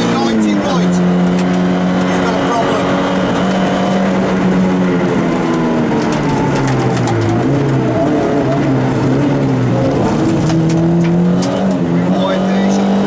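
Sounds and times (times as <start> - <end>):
rally car engine from inside cabin: 0.0 - 13.0.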